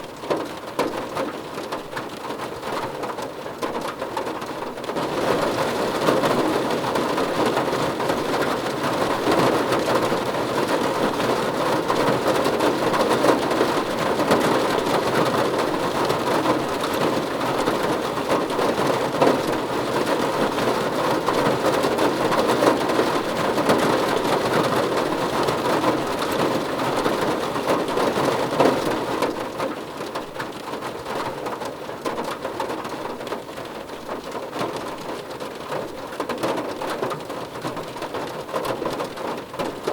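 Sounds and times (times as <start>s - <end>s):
rain pattering on a car roof: 0.0s - 39.9s.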